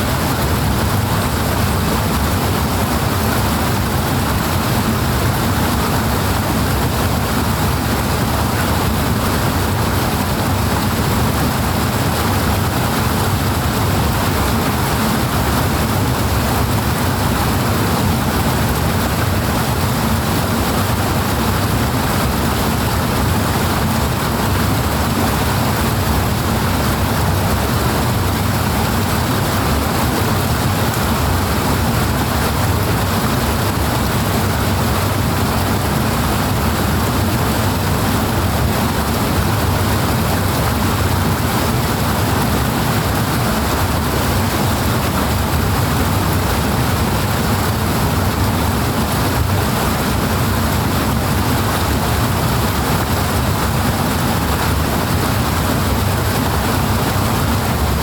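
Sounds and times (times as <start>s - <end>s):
powerful rushing water: 0.0s - 58.0s.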